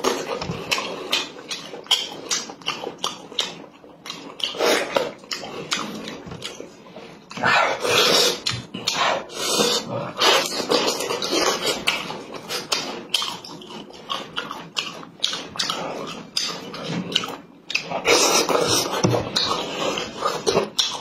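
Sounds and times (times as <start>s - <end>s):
wet chewing and lip-smacking: 0.0s - 21.0s.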